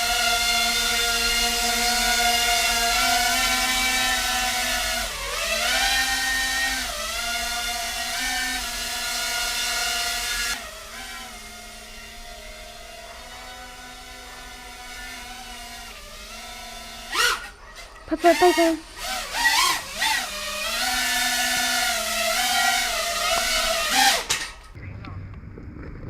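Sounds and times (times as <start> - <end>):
drone motors whining: 0.0 - 24.7.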